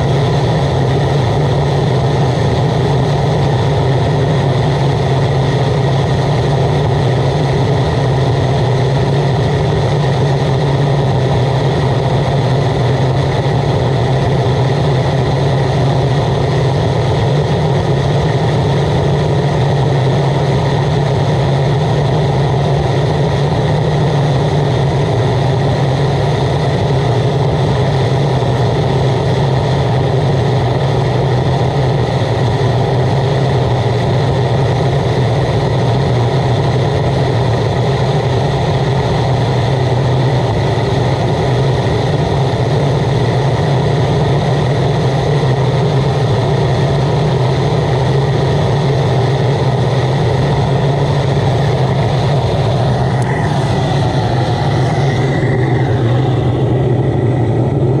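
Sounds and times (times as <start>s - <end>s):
oil burner droning: 0.0s - 58.0s.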